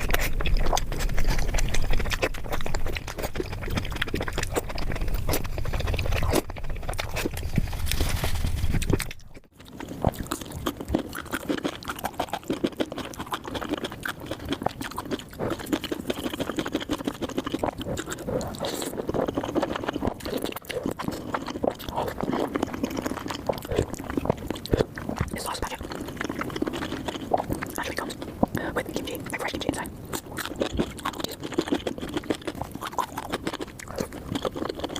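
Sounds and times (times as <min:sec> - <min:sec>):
person chewing food: 0:00.0 - 0:34.9.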